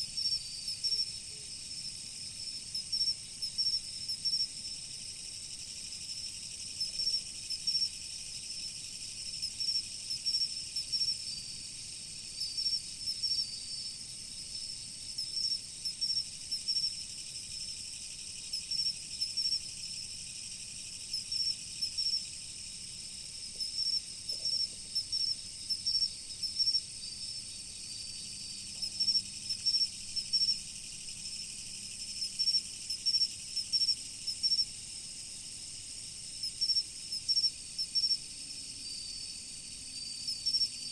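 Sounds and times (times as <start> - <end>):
crickets chirping: 0.0 - 40.9
high-pitched insect trilling: 0.1 - 40.9.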